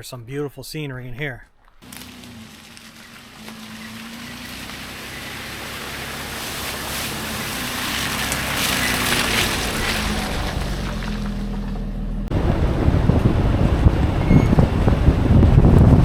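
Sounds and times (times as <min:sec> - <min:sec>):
wind and road noise: 0:01.1 - 0:16.0
vehicle engine humming: 0:01.5 - 0:16.0.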